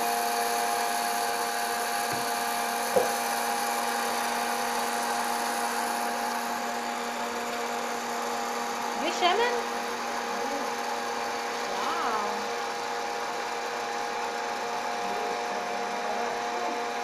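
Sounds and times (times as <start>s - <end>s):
popcorn maker blower whirring: 0.0s - 17.0s.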